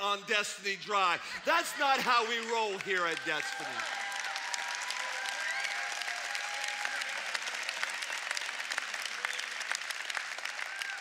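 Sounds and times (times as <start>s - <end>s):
crowd applauding: 1.4s - 11.0s.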